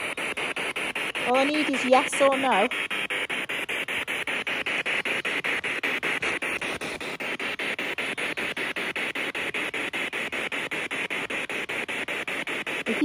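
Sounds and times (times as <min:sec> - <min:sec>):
chopped radio static hiss: 0:00.0 - 0:13.0.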